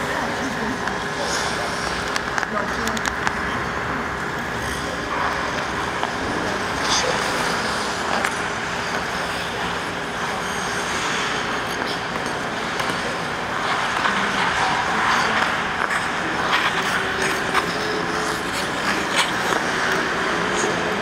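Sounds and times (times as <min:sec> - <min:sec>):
continuous hiss and rumble: 0:00.0 - 0:21.0
faint steady hum: 0:00.0 - 0:21.0.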